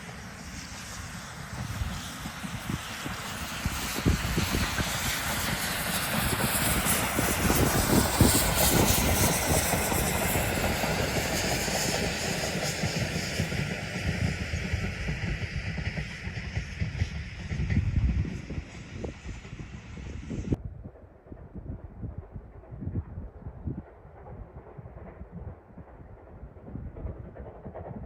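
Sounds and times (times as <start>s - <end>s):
steam train running past: 0.0s - 28.0s.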